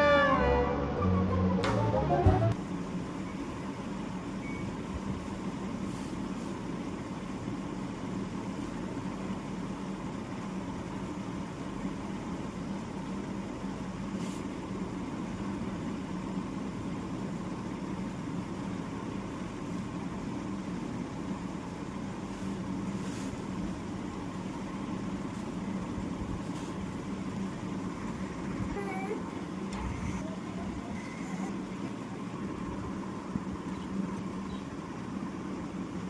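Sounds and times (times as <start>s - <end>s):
low hum and rumble: 0.0s - 36.0s.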